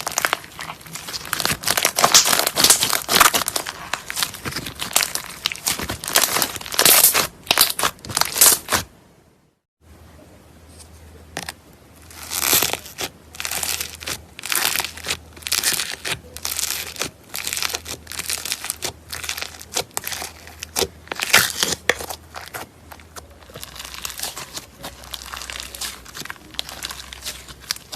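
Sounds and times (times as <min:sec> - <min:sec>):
slime crackling and popping: 0:00.0 - 0:08.9, 0:11.4 - 0:27.9
faint low hum: 0:00.0 - 0:27.9.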